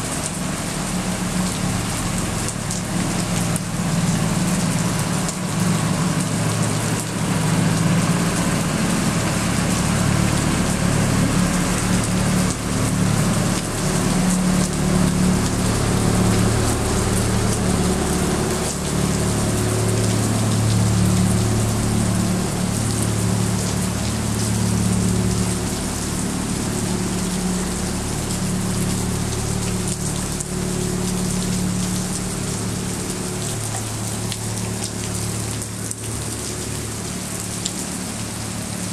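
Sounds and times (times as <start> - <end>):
heavy rain on pavement: 0.0 - 38.9.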